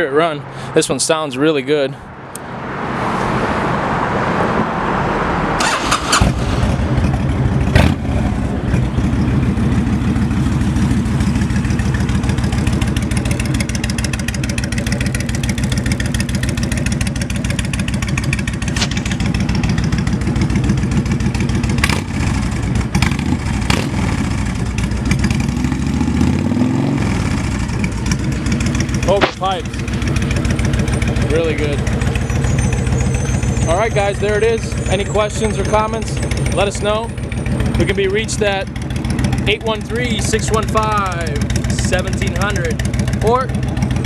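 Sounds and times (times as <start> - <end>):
motorcycle engine idling: 6.8 - 26.1, 27.1 - 44.0.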